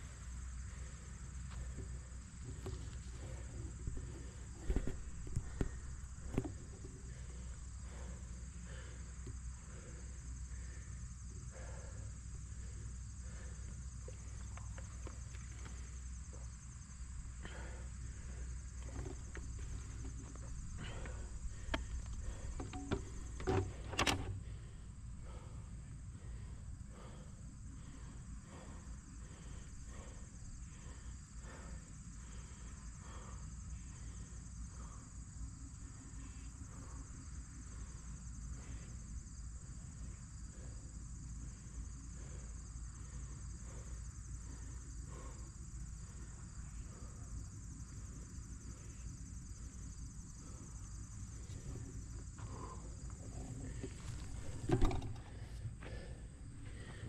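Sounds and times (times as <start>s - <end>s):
constant low rumble: 0.0s - 57.0s
high-pitched insect chorus: 0.0s - 57.0s.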